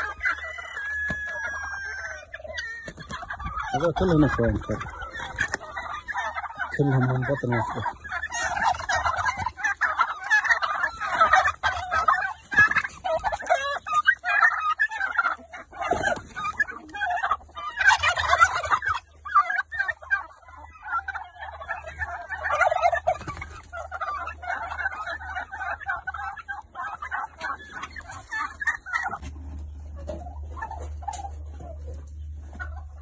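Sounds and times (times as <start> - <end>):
turkeys gobbling and clucking: 0.0 - 33.0.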